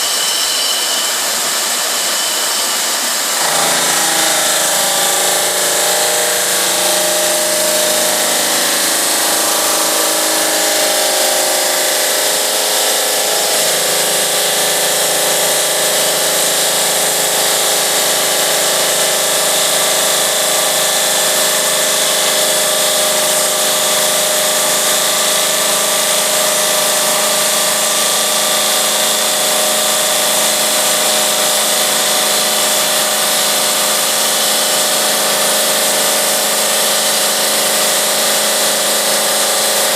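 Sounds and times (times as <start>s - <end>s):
saw cutting stone: 0.0s - 39.9s.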